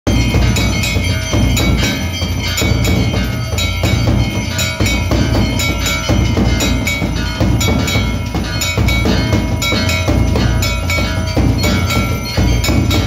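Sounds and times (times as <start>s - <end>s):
low drum beat: 0.1s - 13.0s
temple bells clanging: 0.1s - 13.0s.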